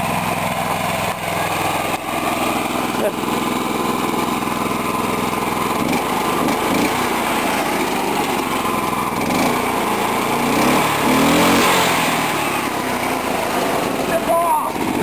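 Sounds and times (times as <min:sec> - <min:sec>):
go-kart engine revving: 0:00.0 - 0:15.0.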